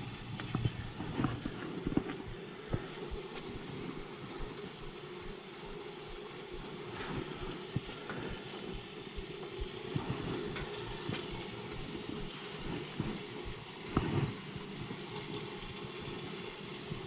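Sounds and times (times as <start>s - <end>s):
boiler and circulator hum: 0.0s - 17.0s.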